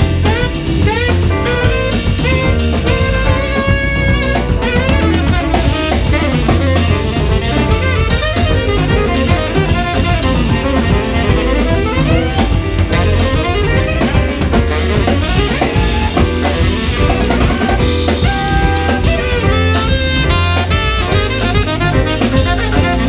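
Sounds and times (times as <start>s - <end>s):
drum kit: 0.0s - 23.0s
jazz quartet playing: 0.0s - 23.0s.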